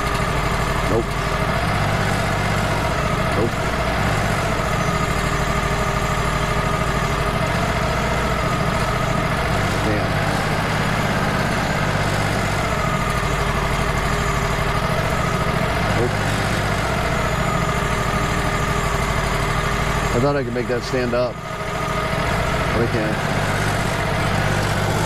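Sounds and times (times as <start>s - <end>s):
sawmill engine idling: 0.0s - 25.0s.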